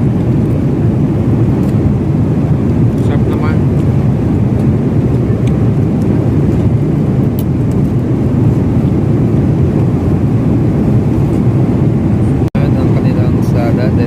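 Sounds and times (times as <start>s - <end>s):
jet engine and airflow rumble: 0.0s - 14.0s.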